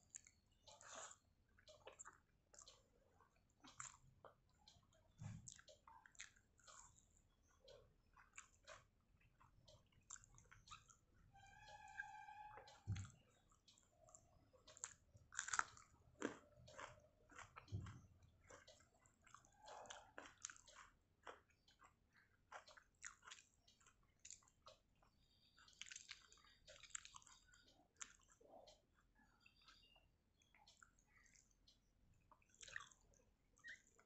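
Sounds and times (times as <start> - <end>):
person chewing and crunching food: 0.0 - 34.0.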